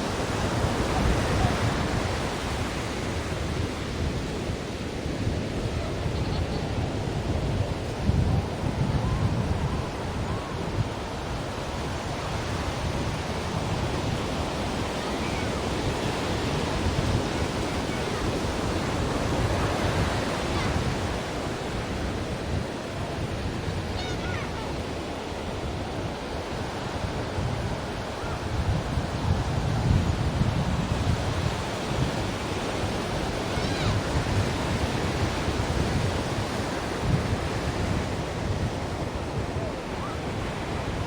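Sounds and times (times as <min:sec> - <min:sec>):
ocean waves breaking on shore: 0:00.0 - 0:41.0.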